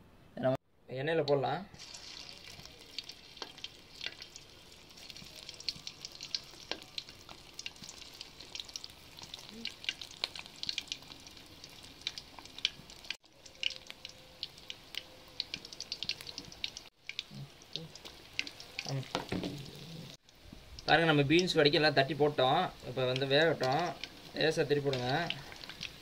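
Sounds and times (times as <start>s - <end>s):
deep-frying sizzle in oil: 1.8s - 26.0s.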